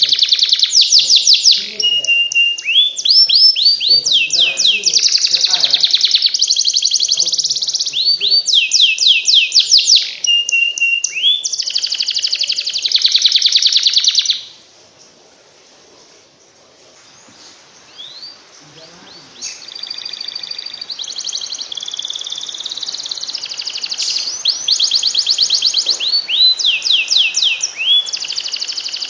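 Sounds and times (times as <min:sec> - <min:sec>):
canary singing trills: 0:00.0 - 0:15.2, 0:16.4 - 0:29.0.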